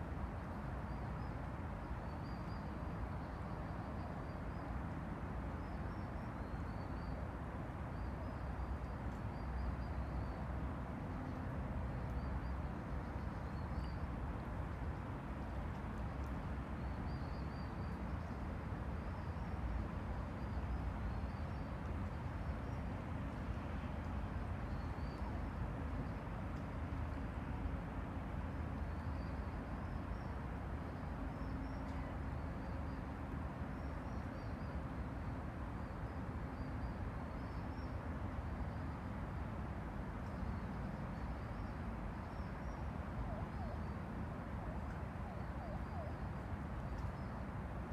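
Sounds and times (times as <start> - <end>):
distant city traffic rumble: 0.1 - 47.9.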